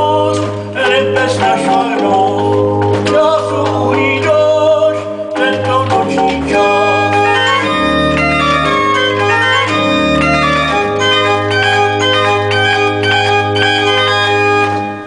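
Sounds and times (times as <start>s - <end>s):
pipe organ playing chords: 0.0s - 15.0s.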